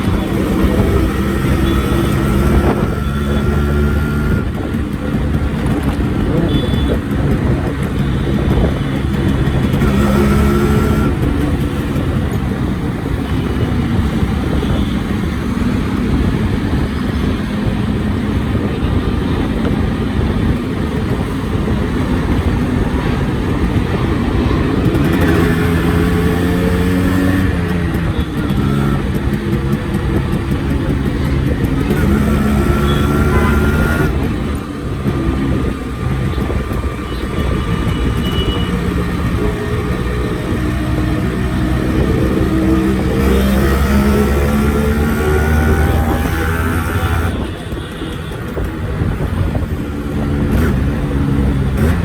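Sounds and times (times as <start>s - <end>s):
motorcycle engine revving: 0.0s - 19.6s, 20.8s - 47.8s, 48.4s - 52.0s.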